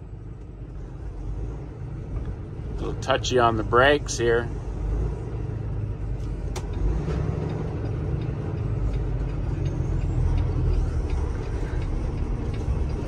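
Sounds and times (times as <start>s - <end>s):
truck diesel engine rumble: 0.0s - 13.0s.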